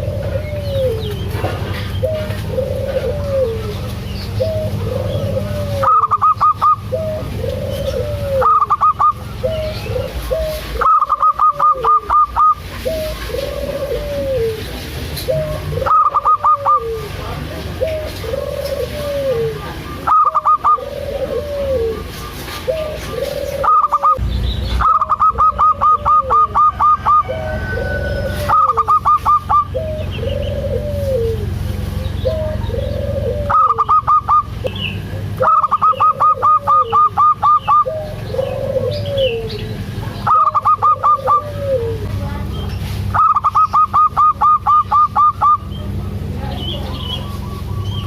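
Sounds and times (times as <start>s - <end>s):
doves cooing: 0.0s - 48.0s.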